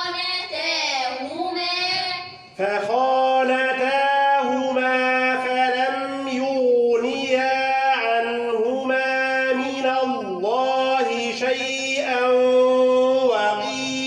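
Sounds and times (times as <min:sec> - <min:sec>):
man chanting recitation: 0:02.5 - 0:14.0.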